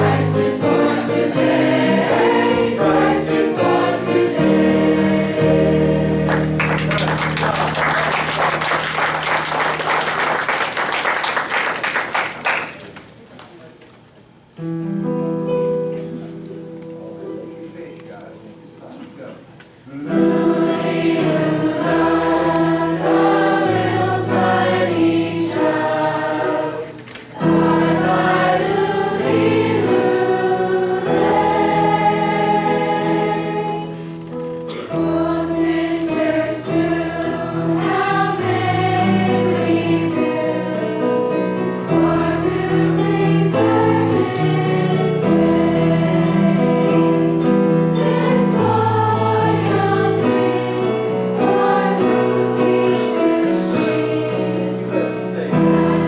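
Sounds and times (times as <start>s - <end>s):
choir singing a carol: 0.0s - 8.8s, 19.9s - 56.0s.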